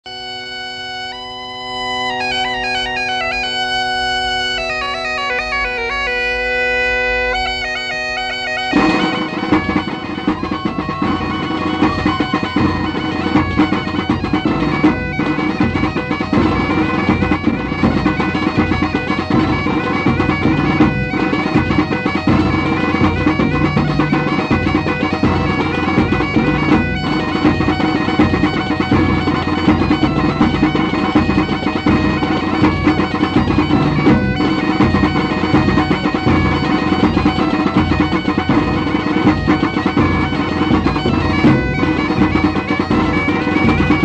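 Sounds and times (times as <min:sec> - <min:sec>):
bagpipes playing folk dance music: 0:00.1 - 0:44.0
band with driving beat: 0:08.7 - 0:44.0.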